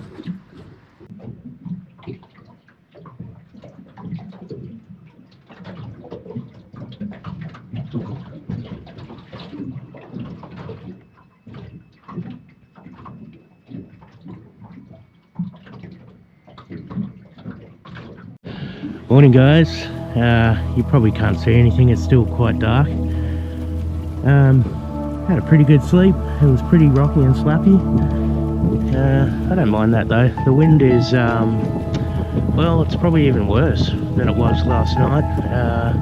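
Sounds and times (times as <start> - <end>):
water lapping against boat hull: 0.0 - 36.0.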